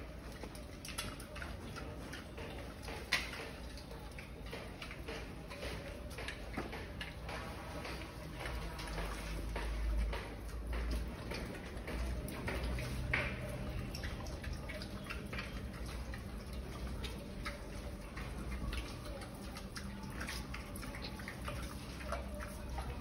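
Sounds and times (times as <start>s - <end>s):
pigs' wet clicks on concrete: 0.0s - 23.0s.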